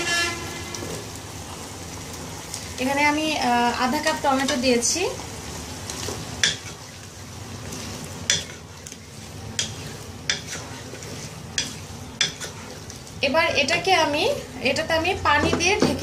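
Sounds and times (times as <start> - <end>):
oil sizzling: 0.0 - 16.0
wooden spoon stirring in pot: 2.5 - 16.0.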